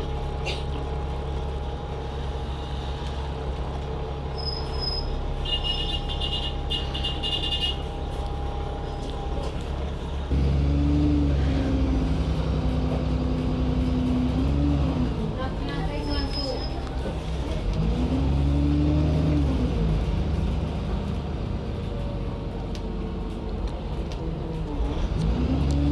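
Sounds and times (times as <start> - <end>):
bus engine running: 0.0 - 25.9.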